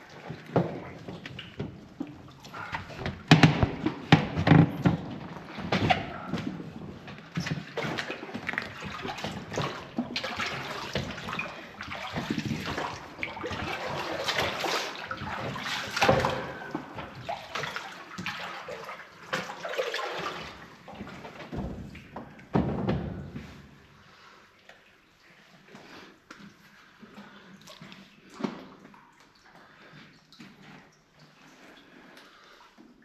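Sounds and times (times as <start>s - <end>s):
water sloshing and lapping: 0.0s - 33.0s.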